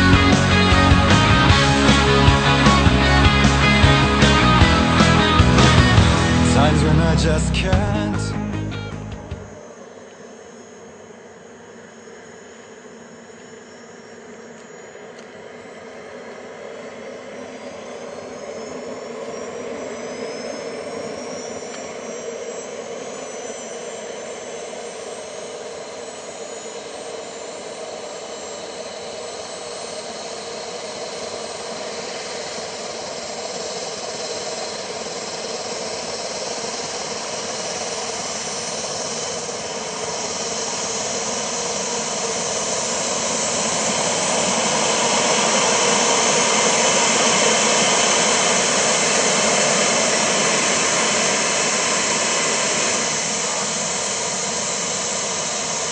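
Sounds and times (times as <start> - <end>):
model jet engine whining: 0.0 - 7.8, 9.3 - 55.9.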